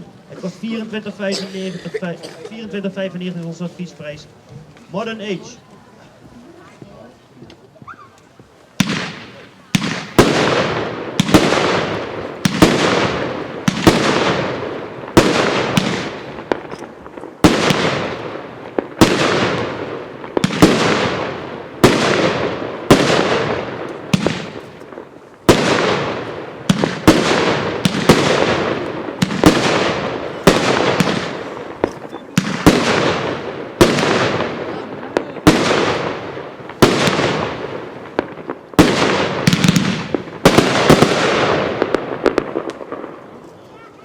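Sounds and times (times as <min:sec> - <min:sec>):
firework bangs with hiss: 0:06.8 - 0:44.0.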